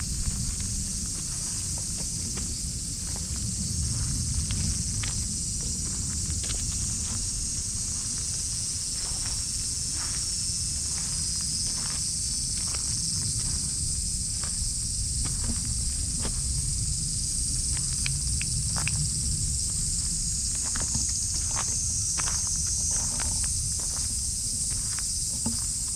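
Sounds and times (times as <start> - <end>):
cicadas chorus: 0.0 - 25.9
low steady rumble: 0.0 - 25.9.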